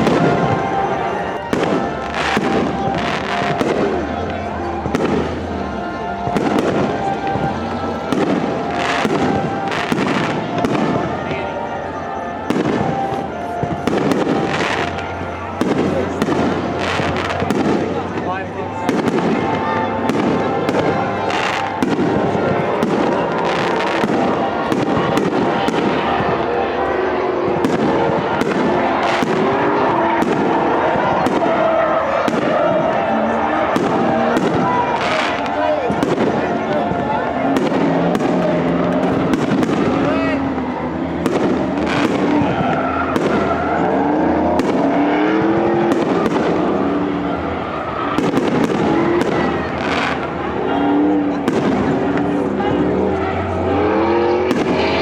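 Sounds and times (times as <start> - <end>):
fireworks bangs: 0.0 - 55.0
fireworks crackling and rumble: 0.0 - 55.0.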